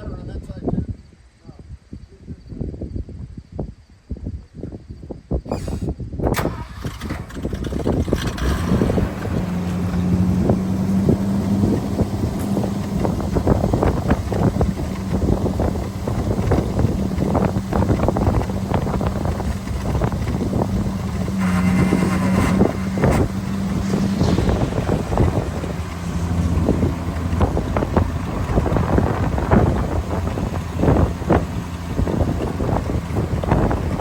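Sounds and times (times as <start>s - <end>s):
wind buffeting microphone: 0.0s - 34.0s
truck engine running: 6.4s - 34.0s.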